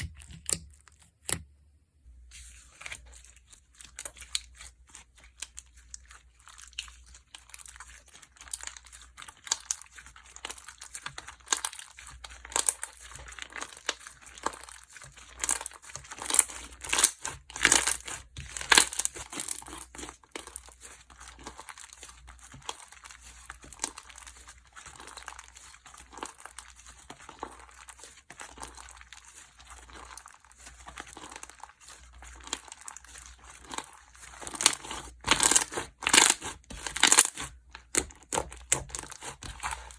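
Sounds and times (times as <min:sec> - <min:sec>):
slime squished by hand: 0:02.7 - 0:39.9.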